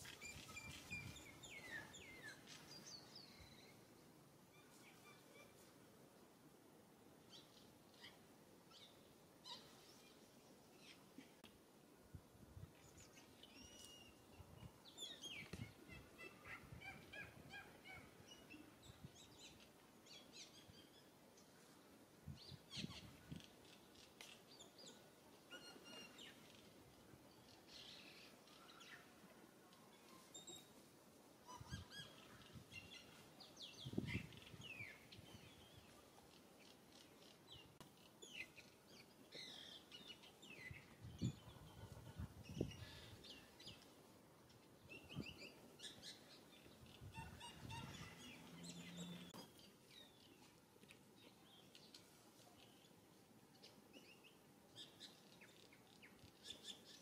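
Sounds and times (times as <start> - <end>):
faint birds chirping: 7.2 - 57.0.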